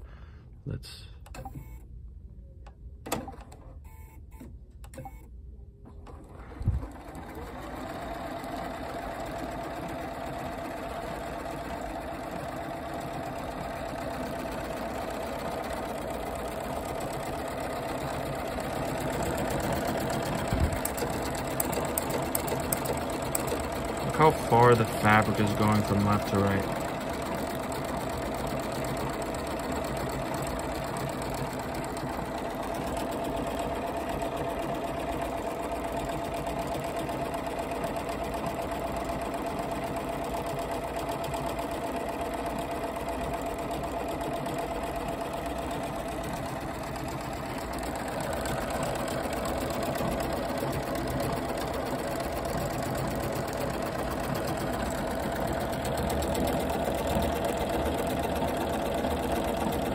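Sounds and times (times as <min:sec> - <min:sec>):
sewing machine stitching: 0:05.9 - 0:59.9.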